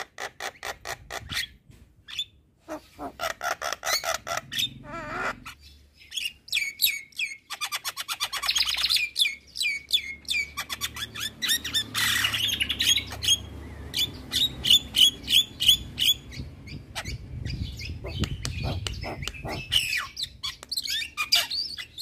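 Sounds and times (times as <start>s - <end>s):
bird raspy chatter: 2.6s - 22.0s.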